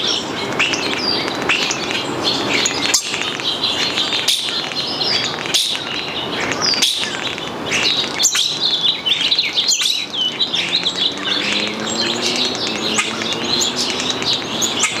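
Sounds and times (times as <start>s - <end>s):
starling singing: 0.0s - 15.0s.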